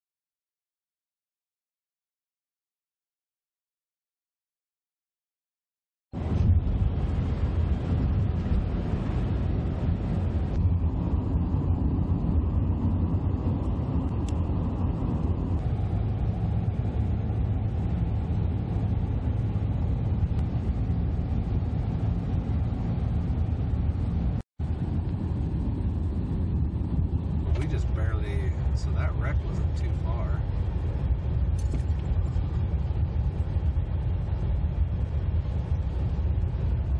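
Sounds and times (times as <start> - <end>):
car road noise from inside: 6.2 - 36.9.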